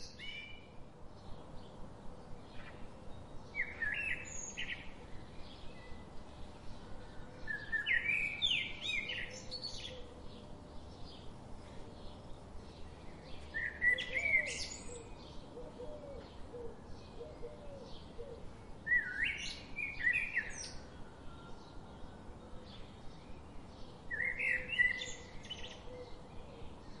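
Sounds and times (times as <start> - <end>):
faint bird chirping: 0.0 - 27.0
songbird song phrases: 0.0 - 27.0.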